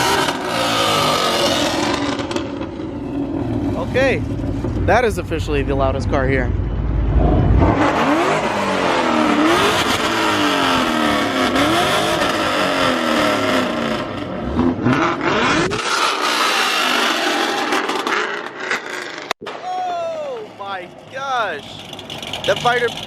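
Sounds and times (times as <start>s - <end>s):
car engine revving: 0.0s - 19.4s, 20.9s - 23.0s.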